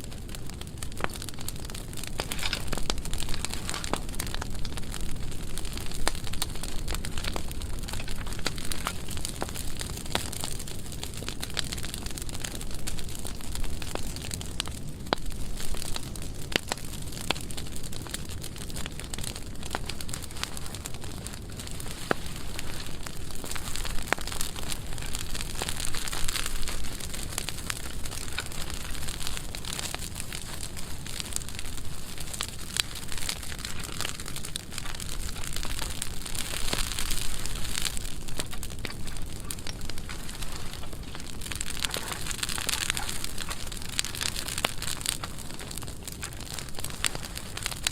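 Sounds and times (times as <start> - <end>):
fire crackling and popping: 0.0 - 47.9
rush of flames: 0.0 - 47.9.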